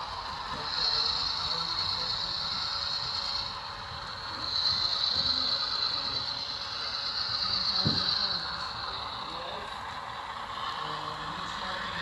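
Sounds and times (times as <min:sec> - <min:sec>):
model train motor whirring: 0:00.0 - 0:12.0.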